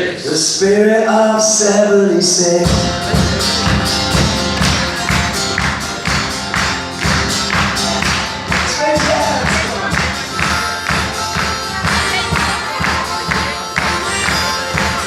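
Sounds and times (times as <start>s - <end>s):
rock band playing: 2.5s - 15.0s.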